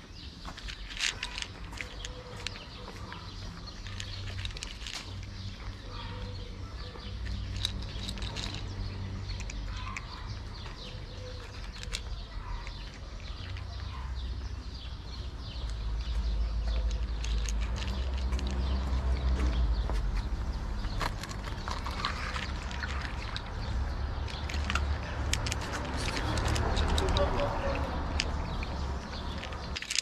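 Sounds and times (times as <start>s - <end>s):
cat crunching dry kibble: 0.6s - 10.6s, 11.3s - 13.8s, 16.5s - 19.5s, 20.8s - 30.0s.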